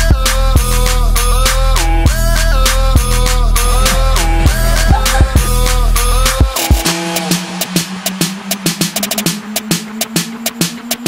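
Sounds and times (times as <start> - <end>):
electronic hip-hop music: 0.0 - 11.0.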